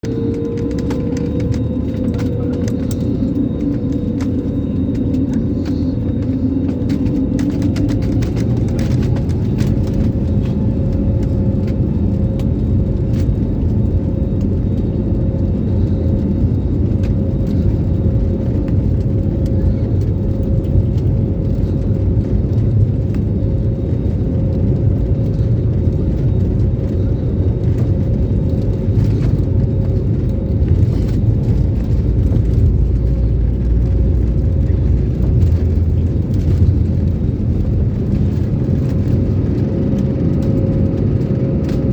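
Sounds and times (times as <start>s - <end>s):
aeroplane engines rumbling: 0.0s - 41.9s
engine whine: 0.0s - 41.9s.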